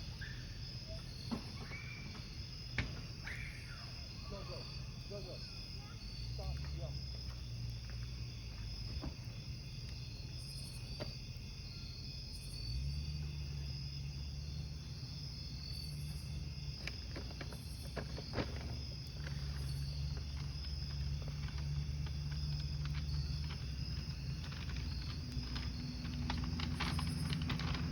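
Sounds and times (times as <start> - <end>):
campfire wood crackling: 0.0 - 27.9
crickets chirping: 0.0 - 27.9.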